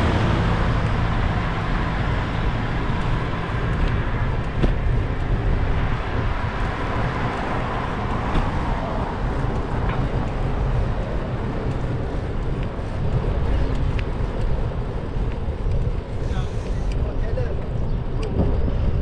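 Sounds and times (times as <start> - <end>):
motor scooter passing: 0.0 - 17.1
road noise rumble: 0.0 - 19.0
wind buffeting: 0.0 - 19.0.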